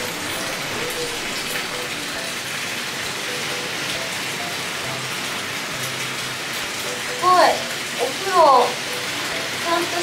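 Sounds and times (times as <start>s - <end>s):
water pouring into a bathtub: 0.0s - 10.0s.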